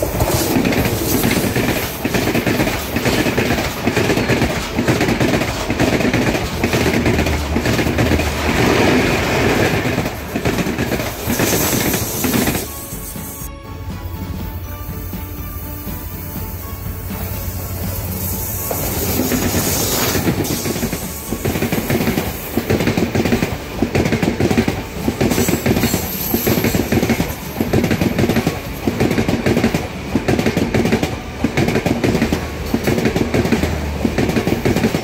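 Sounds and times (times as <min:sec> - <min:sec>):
train wheels clattering: 0:00.0 - 0:13.5, 0:15.1 - 0:35.0
diesel locomotive passing: 0:00.0 - 0:35.0.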